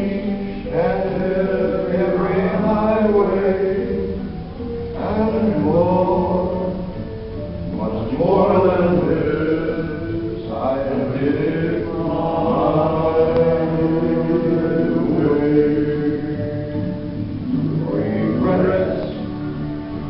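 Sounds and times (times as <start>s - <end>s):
musical accompaniment: 0.0s - 20.0s
person singing long notes: 0.0s - 20.0s.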